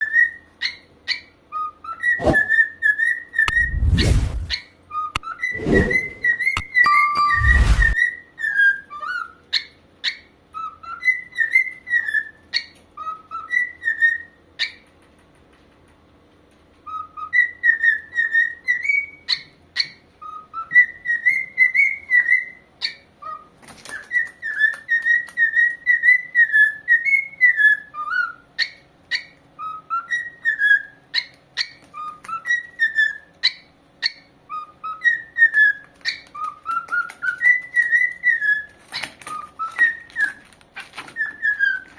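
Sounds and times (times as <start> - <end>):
bird whistling a tune: 0.0 - 14.7, 16.9 - 40.4, 41.2 - 41.9.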